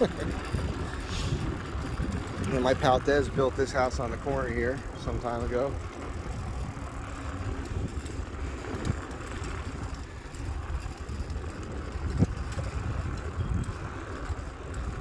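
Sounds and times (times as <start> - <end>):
low rumble of bicycle ride: 0.0 - 15.0
wind buffeting microphone: 0.0 - 15.0.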